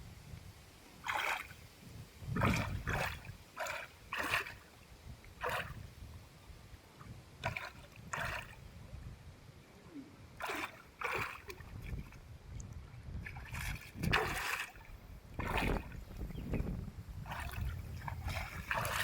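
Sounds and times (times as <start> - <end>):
water splashing and sloshing: 0.3 - 6.2, 6.9 - 9.1, 9.9 - 19.0.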